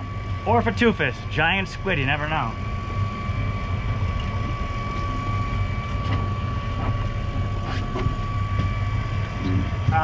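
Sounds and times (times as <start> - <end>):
boat engine droning: 0.0 - 10.0
high-pitched whine: 0.0 - 10.0.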